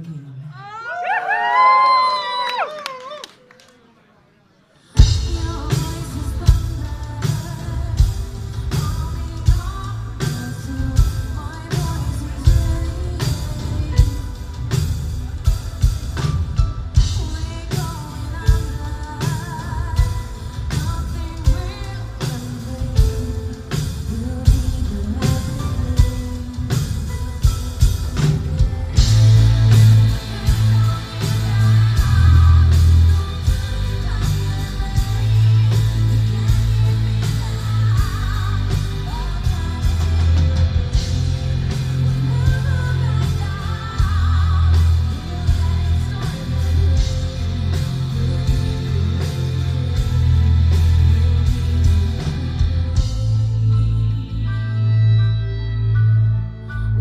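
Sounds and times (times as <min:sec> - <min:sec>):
woman singing: 0:04.9 - 0:55.0
metal band playing: 0:05.0 - 0:57.0.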